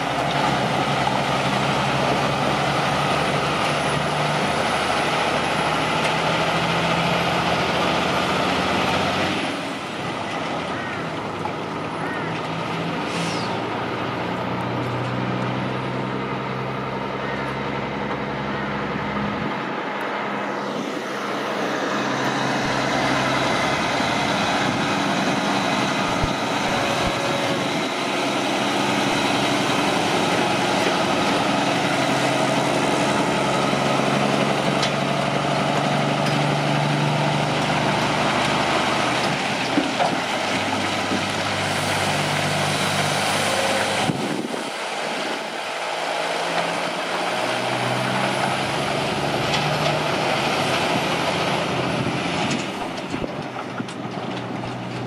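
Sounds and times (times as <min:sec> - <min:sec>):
truck diesel engines running: 0:00.0 - 0:55.0.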